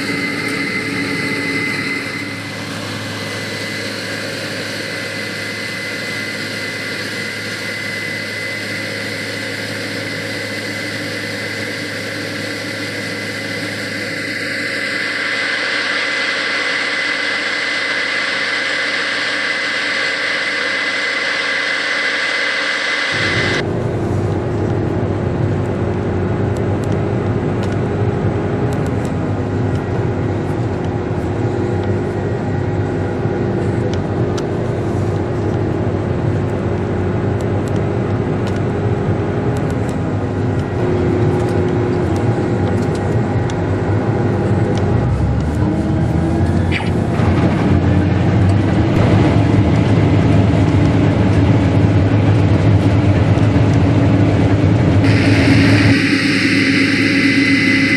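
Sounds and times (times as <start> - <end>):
combine harvester droning: 0.0 - 57.9.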